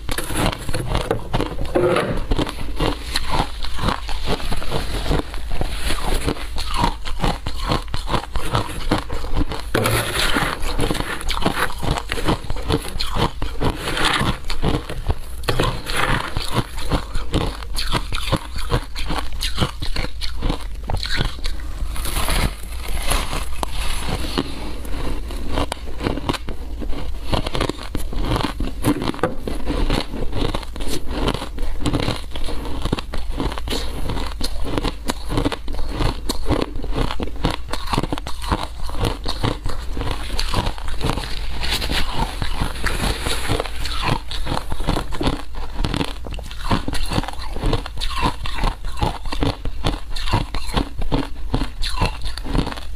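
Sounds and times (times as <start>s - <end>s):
shaved ice crunched and chewed: 0.0s - 52.9s.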